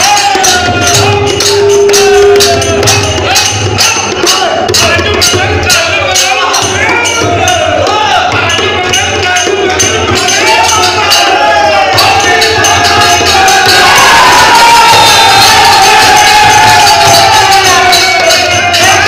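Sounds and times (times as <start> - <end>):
crowd voices and shouts: 0.0 - 19.0
group singing: 0.0 - 19.0
percussion beat: 0.0 - 19.0.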